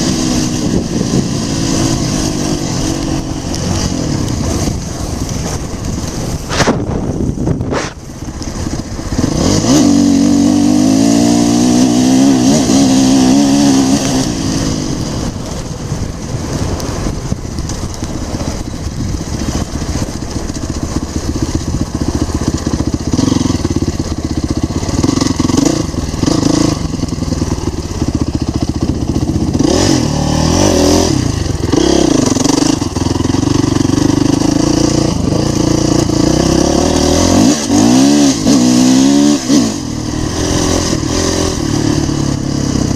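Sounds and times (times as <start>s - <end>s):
dirt bike engine revving: 0.0s - 15.6s, 17.8s - 42.9s.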